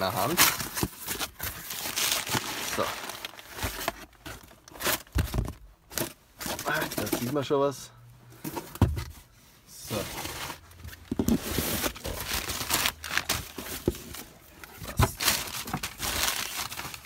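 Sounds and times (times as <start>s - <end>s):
newspaper crinkling and rustling: 0.0s - 7.4s, 9.9s - 17.0s.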